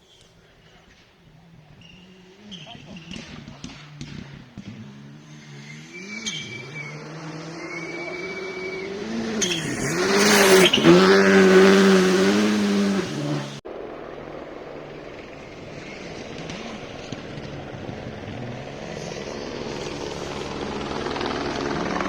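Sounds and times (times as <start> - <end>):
rally car engine passing: 0.4 - 22.0.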